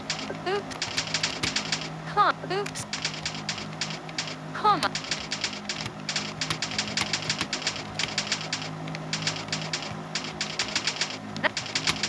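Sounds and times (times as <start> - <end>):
keyboard typing clicks: 0.0 - 1.9, 2.6 - 12.0
steady low hum: 0.0 - 12.0.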